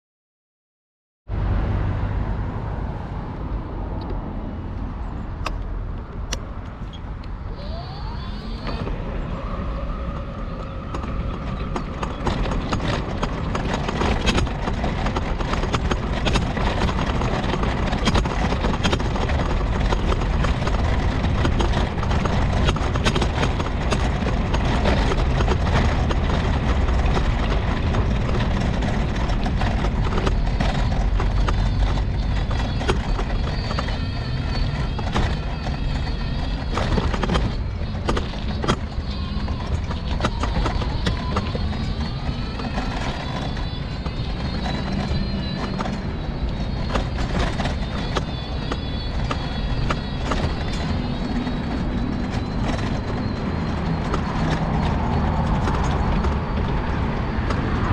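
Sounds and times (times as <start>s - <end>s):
scooter rattling and rumbling: 4.9s - 57.9s
scooter motor whine: 7.2s - 57.9s.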